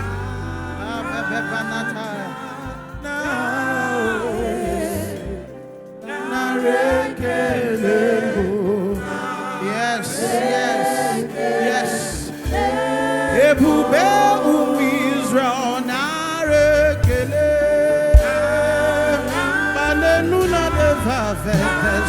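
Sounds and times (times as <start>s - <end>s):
backing music: 0.0s - 22.0s
choir singing: 0.0s - 22.0s
lead singer: 0.0s - 22.0s.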